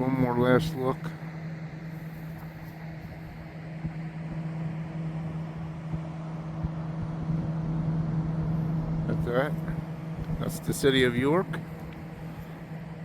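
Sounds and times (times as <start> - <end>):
low machine hum: 0.0 - 13.0
rush of background noise: 0.0 - 13.0.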